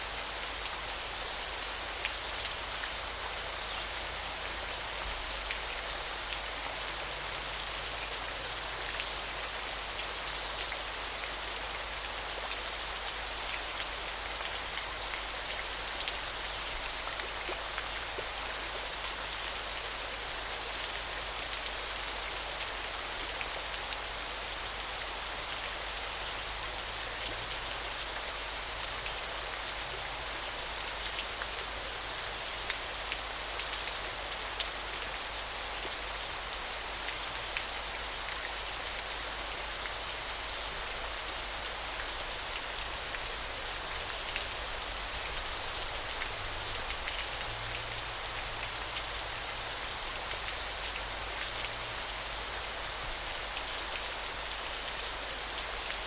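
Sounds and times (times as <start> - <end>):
running water hiss: 0.0 - 56.0.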